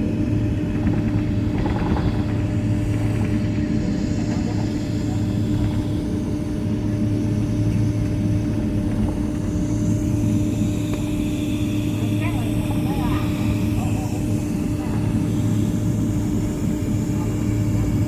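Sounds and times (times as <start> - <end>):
airplane cabin drone: 0.0 - 18.0.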